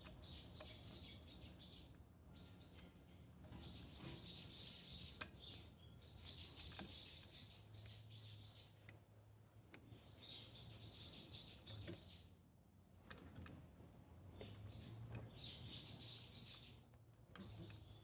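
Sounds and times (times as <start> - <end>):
bird chirping: 0.0 - 9.2, 9.9 - 16.8.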